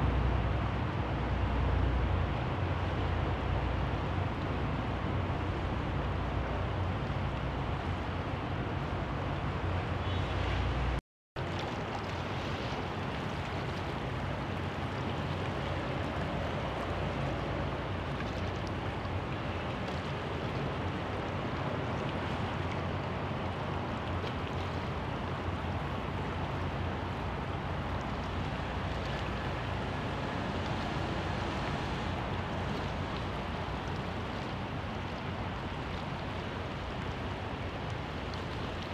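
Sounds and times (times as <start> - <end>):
flowing water: 0.0 - 38.9
low engine hum: 0.0 - 38.9
wind: 0.0 - 38.9.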